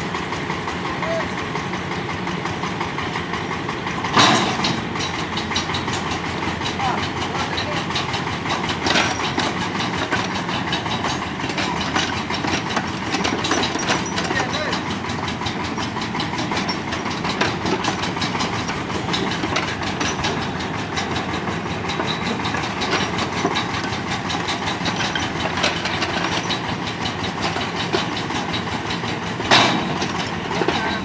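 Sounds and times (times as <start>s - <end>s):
excavator running: 0.0s - 31.0s
metal clicks and clanks: 1.6s - 31.0s.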